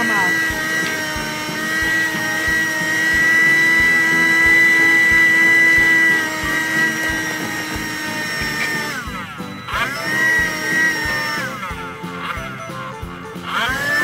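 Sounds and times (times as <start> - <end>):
handheld vacuum motor whine: 0.0 - 14.0.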